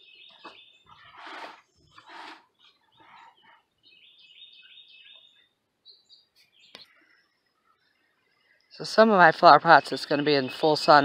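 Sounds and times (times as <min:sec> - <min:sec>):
faint bird song: 0:00.0 - 0:11.0.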